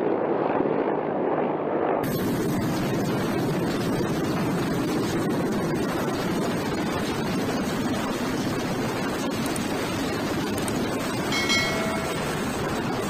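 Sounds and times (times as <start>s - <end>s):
helicopter running: 2.0s - 13.0s.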